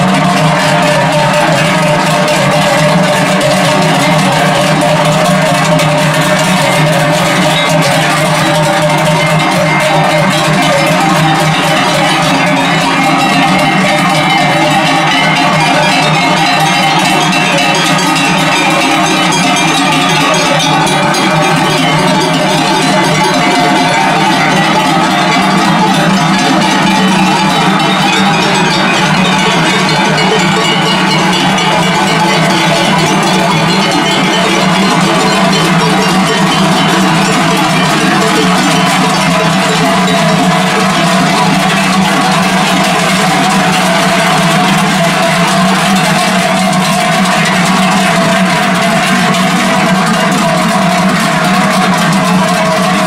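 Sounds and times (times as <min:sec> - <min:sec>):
cowbells ringing: 0:00.0 - 0:53.0.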